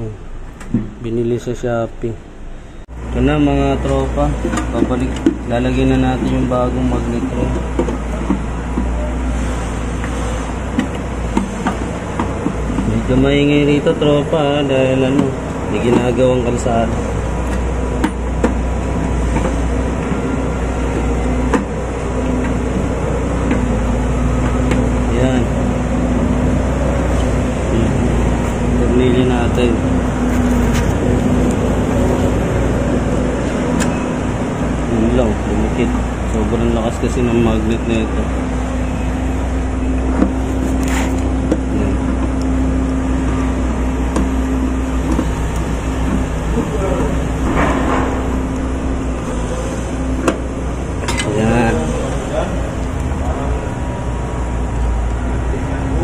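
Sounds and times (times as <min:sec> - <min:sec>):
construction machinery engine drone: 0:00.0 - 0:56.0.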